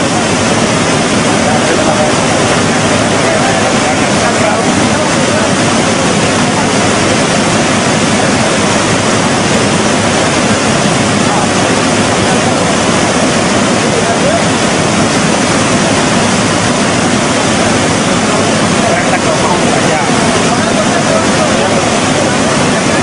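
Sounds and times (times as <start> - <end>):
flooded river rushing: 0.0 - 23.0.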